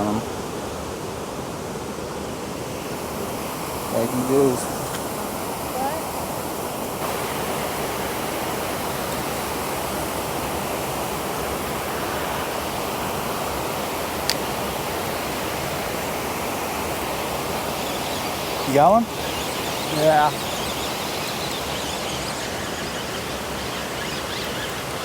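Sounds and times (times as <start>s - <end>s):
flowing creek water: 0.0s - 25.0s.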